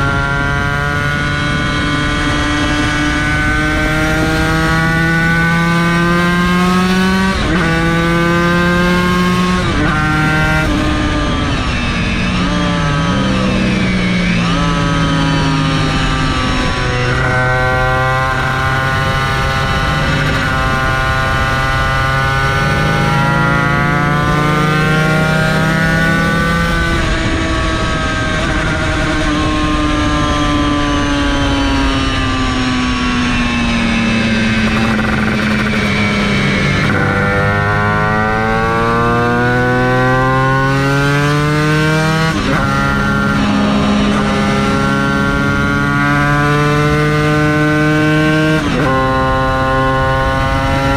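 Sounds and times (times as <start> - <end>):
race motorcycle engine accelerating: 0.0 - 50.9.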